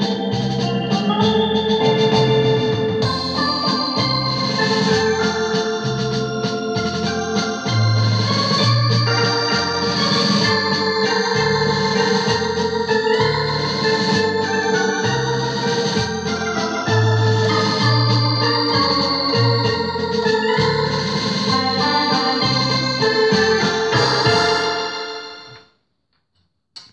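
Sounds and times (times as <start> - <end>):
electronic organ keyboard playing: 0.0 - 25.7.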